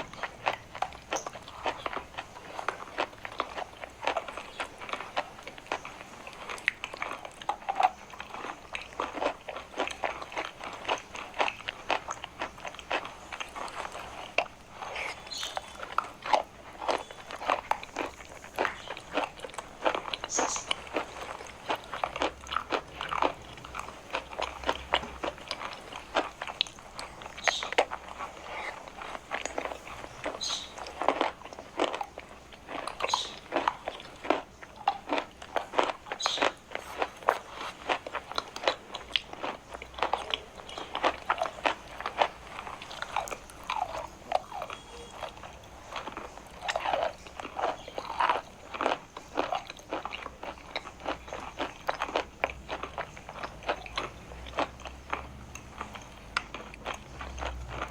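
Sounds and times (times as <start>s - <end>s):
chewing chalk crunches: 0.0s - 57.9s.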